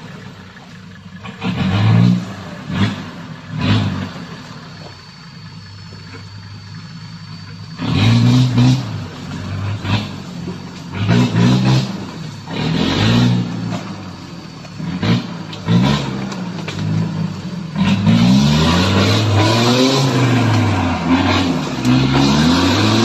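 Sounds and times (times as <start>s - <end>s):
engine revving in bursts: 1.2s - 4.9s, 6.7s - 23.0s.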